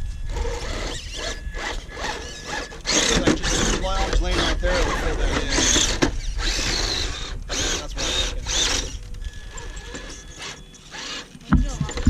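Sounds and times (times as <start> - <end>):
electric motor whirring: 0.0 - 12.0.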